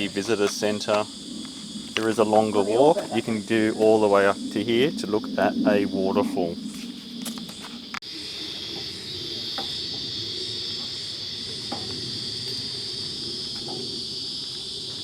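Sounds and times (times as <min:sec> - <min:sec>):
chorus of insects droning: 0:00.0 - 0:15.0.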